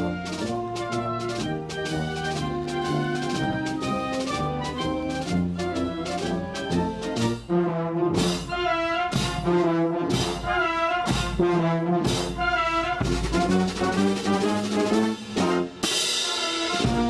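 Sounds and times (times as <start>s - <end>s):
accented brass hits: 0.0s - 17.0s
brass band playing chords: 0.0s - 17.0s.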